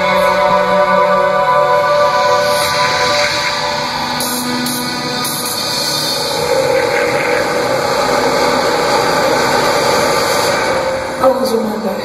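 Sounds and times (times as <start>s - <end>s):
crowd noise: 0.0s - 12.0s.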